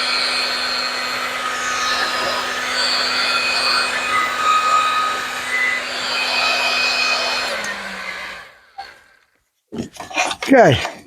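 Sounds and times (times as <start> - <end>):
heat gun blowing with motor hum: 0.0 - 9.2.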